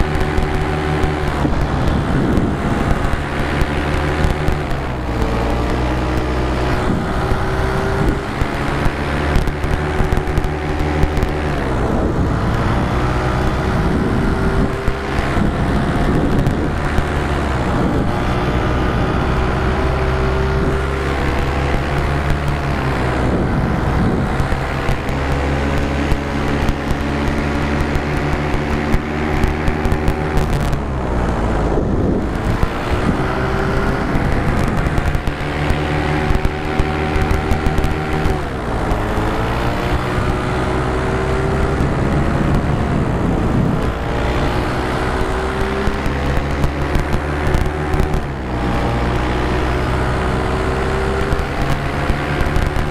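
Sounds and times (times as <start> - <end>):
paramotor engine running: 0.0 - 52.9.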